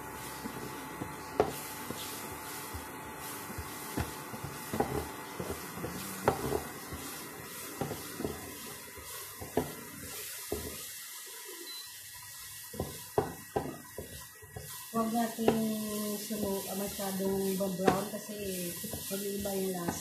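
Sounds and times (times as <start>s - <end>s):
onion sizzling in a pot: 0.0s - 20.0s
spatula scraping a pan: 1.5s - 10.9s, 12.4s - 20.0s.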